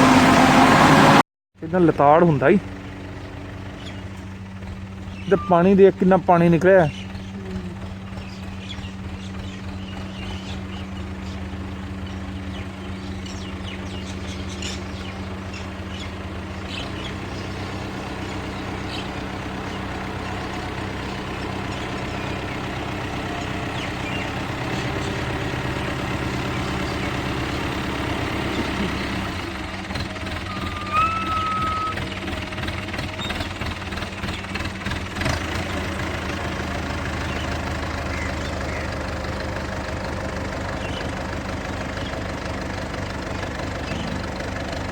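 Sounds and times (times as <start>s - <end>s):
farm machinery engine humming: 0.0s - 44.9s.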